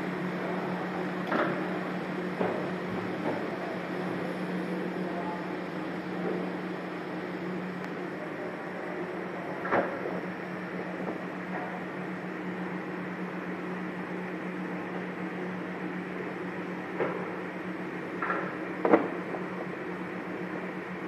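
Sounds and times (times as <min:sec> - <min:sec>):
machine humming steadily: 0:00.0 - 0:21.0.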